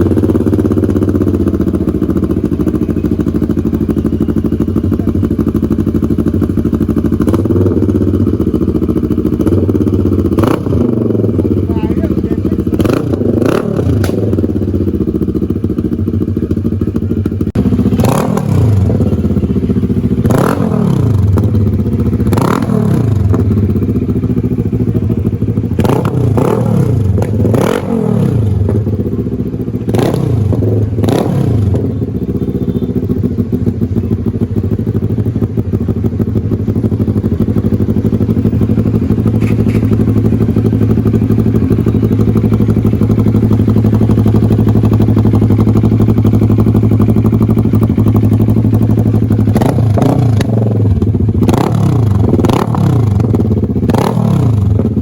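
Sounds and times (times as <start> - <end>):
motorcycle engine revving and idling: 0.0 - 55.0.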